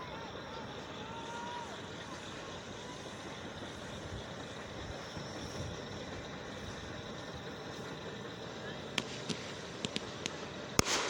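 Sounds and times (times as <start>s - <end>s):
hiss: 0.0s - 11.0s.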